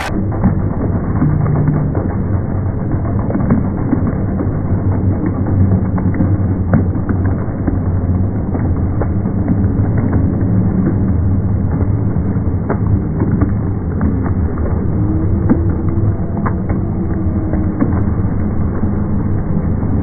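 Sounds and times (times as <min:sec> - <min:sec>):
slowed crowd clapping and cheering: 0:00.0 - 0:20.0.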